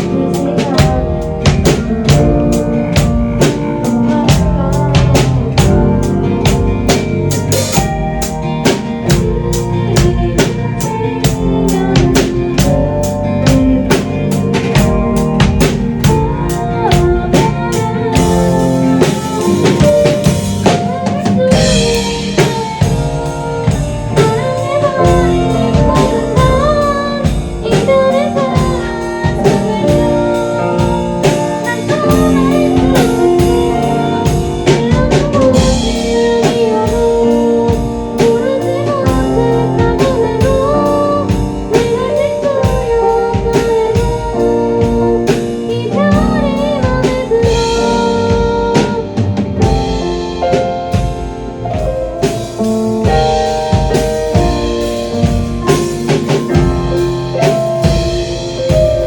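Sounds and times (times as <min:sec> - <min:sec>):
guitars: 0:00.0 - 0:59.0
keyboards: 0:00.0 - 0:59.0
steady drum beat: 0:00.0 - 0:59.0.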